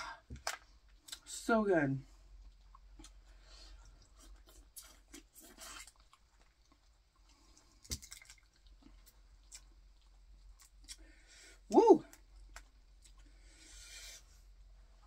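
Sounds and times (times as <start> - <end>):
wet chewing sounds: 2.2 - 14.7.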